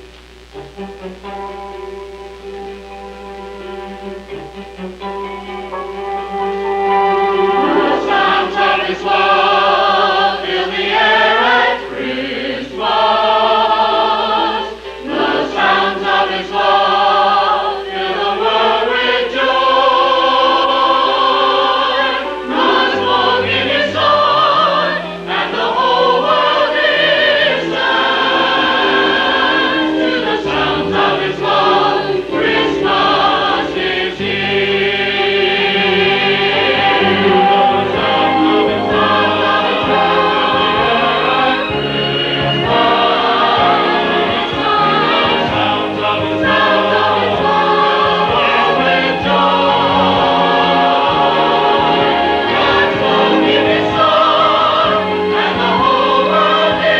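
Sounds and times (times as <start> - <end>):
instrumental accompaniment: 0.0 - 56.9
choir singing in parts: 3.4 - 56.9.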